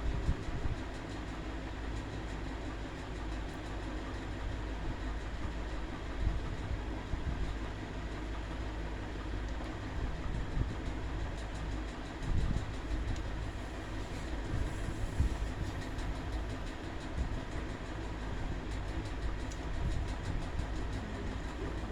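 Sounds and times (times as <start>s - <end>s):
electric fan running: 0.0s - 21.9s.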